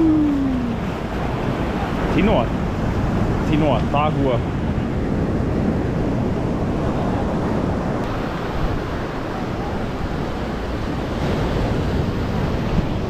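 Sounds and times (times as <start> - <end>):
ocean waves breaking on sand: 0.0 - 13.0
wind buffeting microphone: 0.0 - 13.0.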